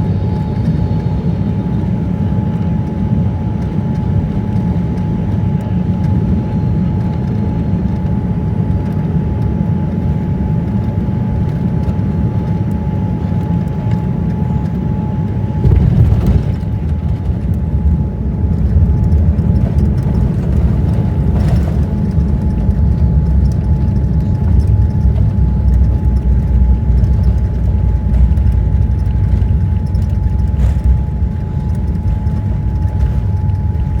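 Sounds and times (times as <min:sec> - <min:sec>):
airliner cabin rumble: 0:00.0 - 0:34.0
constant hum: 0:00.0 - 0:34.0.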